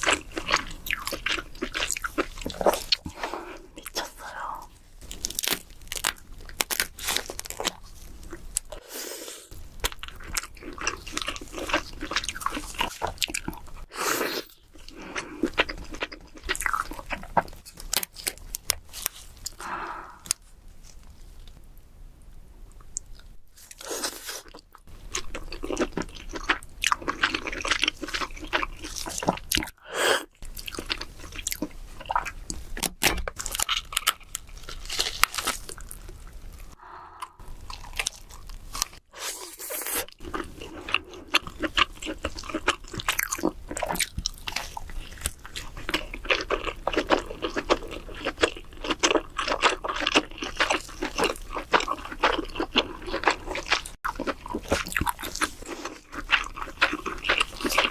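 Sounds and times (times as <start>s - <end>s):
chewing and crunching crab: 0.0s - 4.3s, 5.0s - 8.8s, 9.5s - 20.4s, 23.0s - 57.9s.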